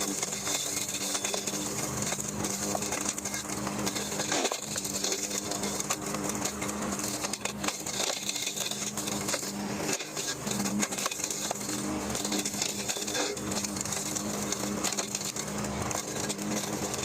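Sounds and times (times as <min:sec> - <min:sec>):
clicking and crackling: 0:00.0 - 0:17.0
lawnmower engine running: 0:00.0 - 0:17.0.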